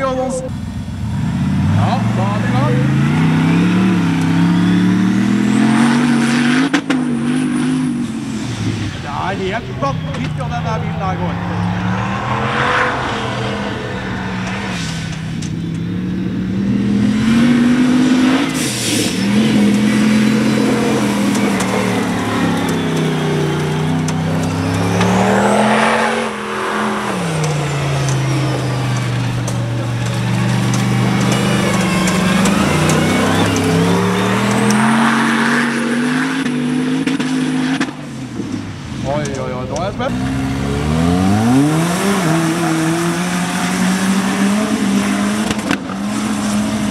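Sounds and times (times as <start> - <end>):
buggy engines revving hard: 0.0 - 46.9.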